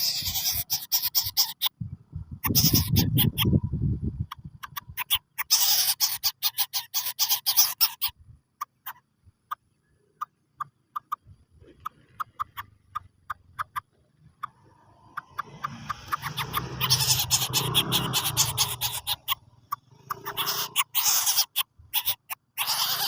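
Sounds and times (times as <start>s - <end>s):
bird calling with clicking notes: 4.2s - 23.0s.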